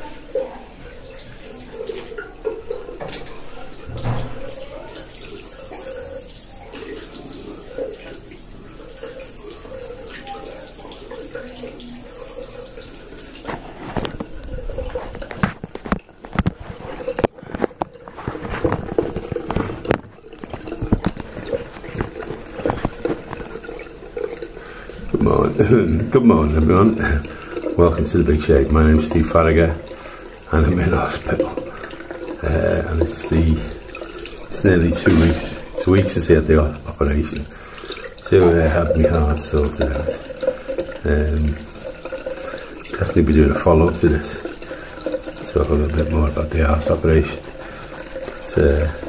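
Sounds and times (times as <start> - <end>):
tap water running into basin: 0.0 - 49.0.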